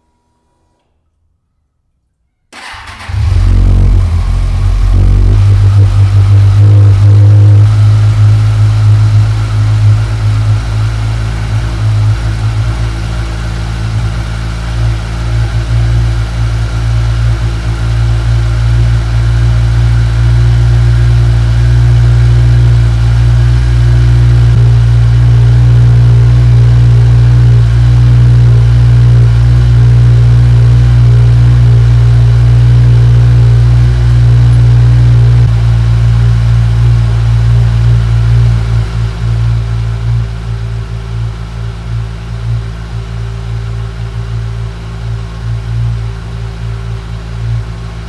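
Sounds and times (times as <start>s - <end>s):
motorcycle engine idling: 2.6s - 48.0s.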